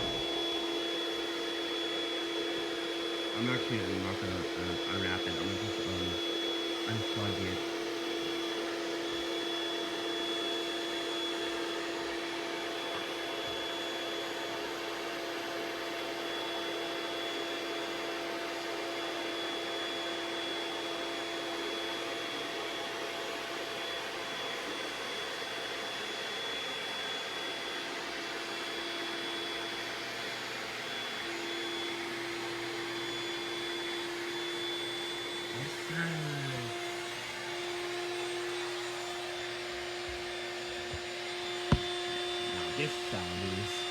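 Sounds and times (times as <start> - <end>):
electric air pump whirring: 0.0 - 18.2, 25.1 - 43.9.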